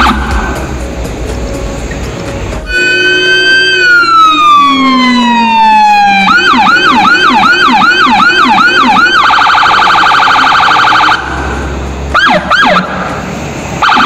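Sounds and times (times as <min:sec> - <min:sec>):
electronic siren wailing: 0:00.0 - 0:00.7, 0:02.6 - 0:13.0, 0:13.8 - 0:14.0.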